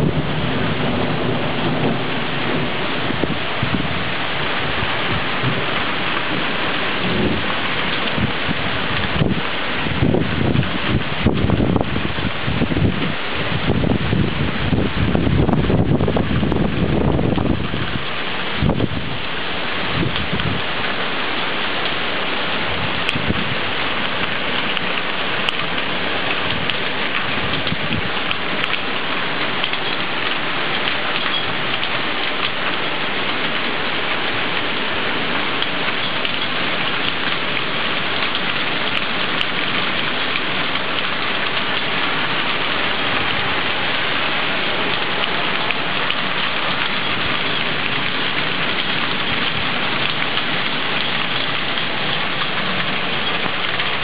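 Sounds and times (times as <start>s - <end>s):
heavy rain and hail: 0.0s - 54.0s.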